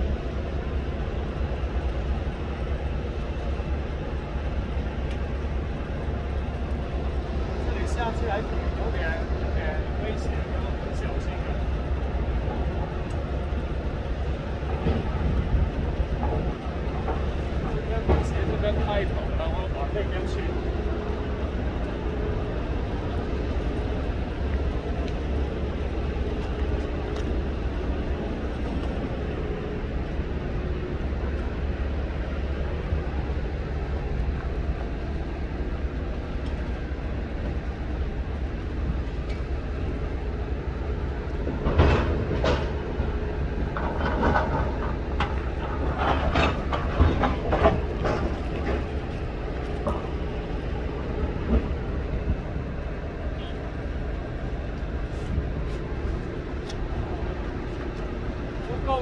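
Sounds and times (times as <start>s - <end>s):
sea at rocky shore: 0.0s - 59.0s
wind: 0.0s - 59.0s.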